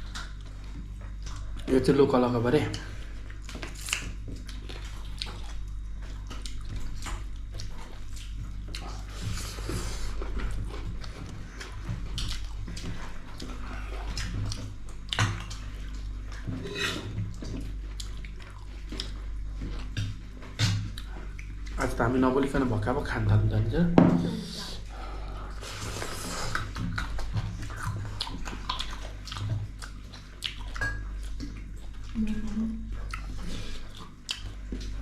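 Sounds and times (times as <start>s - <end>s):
steady low hum: 0.0s - 35.0s
wet chewing and slurping: 2.7s - 21.9s, 24.8s - 32.2s, 32.8s - 35.0s.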